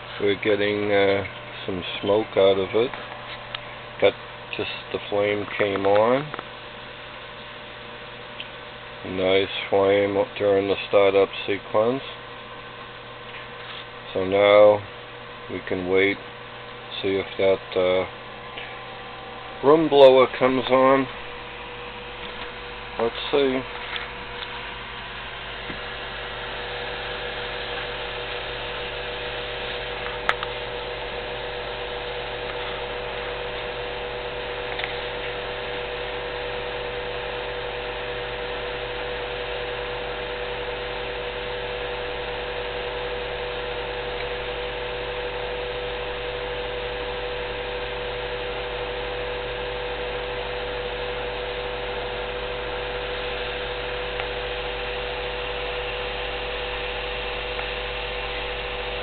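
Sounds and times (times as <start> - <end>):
blower motor humming and buzzing: 0.0 - 59.0.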